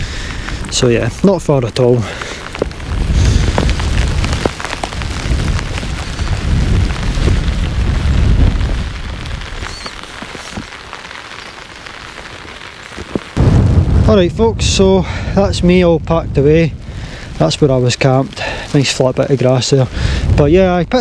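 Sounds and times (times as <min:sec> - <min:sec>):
heavy rain pattering: 0:00.0 - 0:21.0
wind gusts on microphone: 0:01.9 - 0:10.8, 0:13.0 - 0:21.0.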